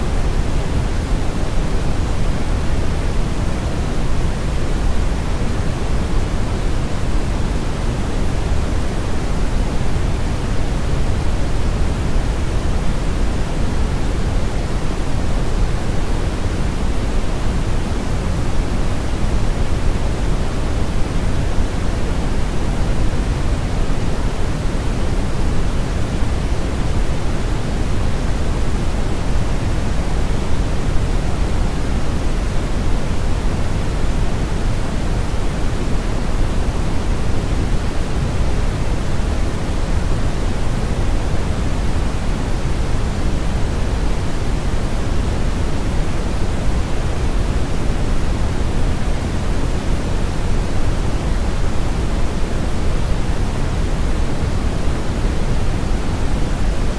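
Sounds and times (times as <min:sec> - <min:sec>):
steady brown noise rush: 0:00.0 - 0:56.9.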